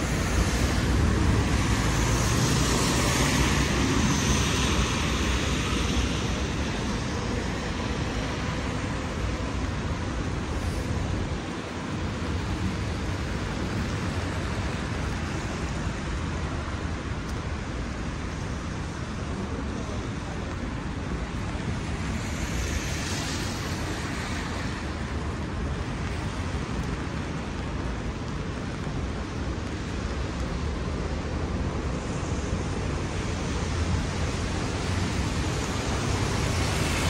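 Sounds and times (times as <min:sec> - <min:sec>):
rain: 0:00.0 - 0:37.0
traffic on wet roads: 0:00.0 - 0:37.0
tyres hissing on wet road: 0:00.0 - 0:37.0
wind rumble on microphone: 0:00.0 - 0:37.0.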